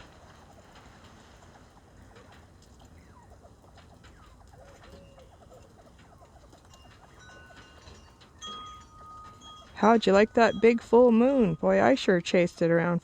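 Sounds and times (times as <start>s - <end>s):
quail chirps and clucks: 0.0s - 13.0s.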